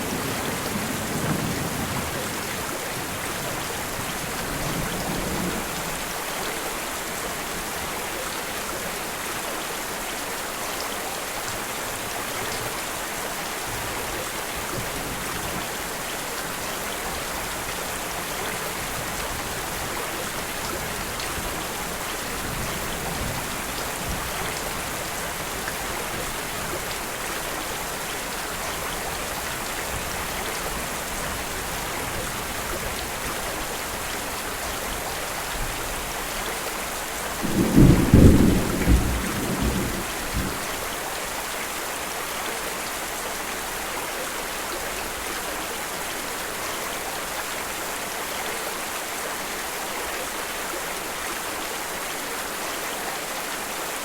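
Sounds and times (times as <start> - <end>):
dense rainfall hissing: 0.0 - 54.0.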